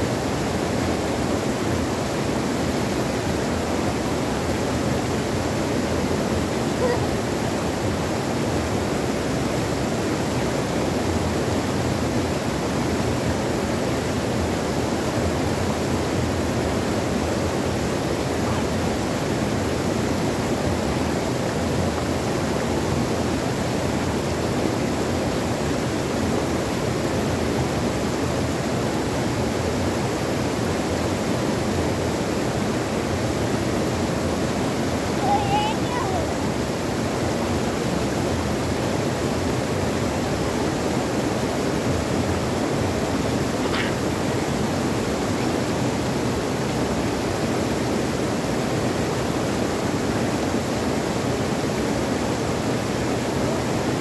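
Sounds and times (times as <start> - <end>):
stream water rushing over rocks: 0.0 - 54.0.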